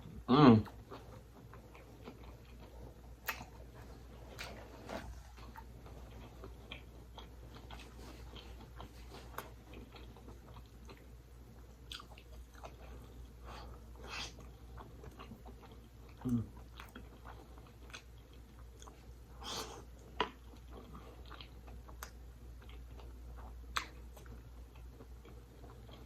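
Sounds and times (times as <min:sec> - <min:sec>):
low steady hum: 0:00.0 - 0:26.0
person chewing food: 0:00.0 - 0:26.0.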